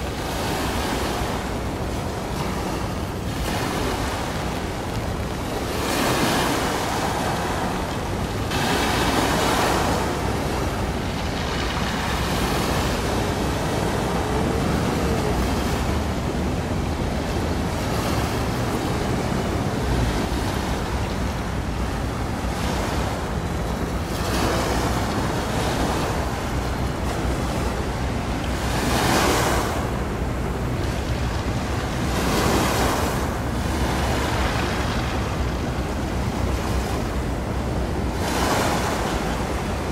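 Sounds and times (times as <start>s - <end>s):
waves washing against shore: 0.0s - 39.9s.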